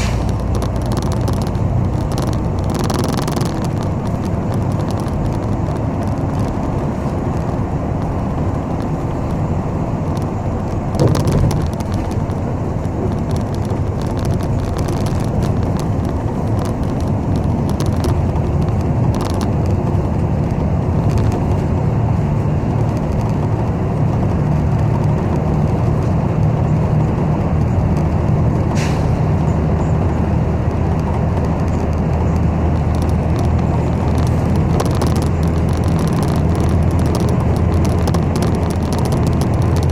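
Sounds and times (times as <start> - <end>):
bus engine drone: 0.0 - 39.9
road rumble: 0.0 - 39.9.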